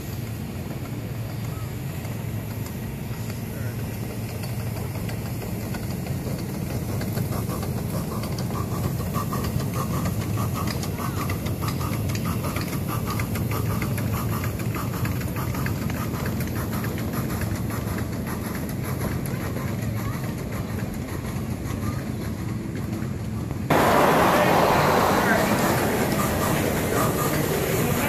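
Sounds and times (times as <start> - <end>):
low running hum: 0.0 - 28.0
train wheels clicking on rail joints: 0.0 - 28.0.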